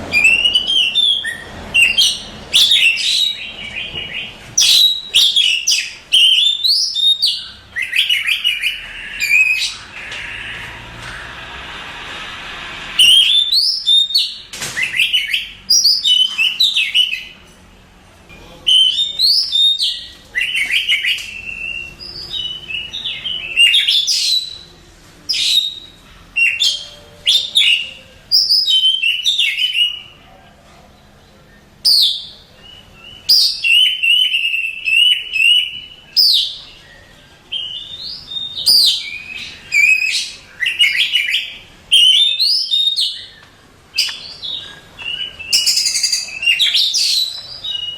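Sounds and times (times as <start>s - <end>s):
bird singing whistles and chirps: 0.1s - 10.7s, 13.0s - 17.4s, 18.6s - 24.7s, 25.3s - 30.2s, 31.5s - 47.9s.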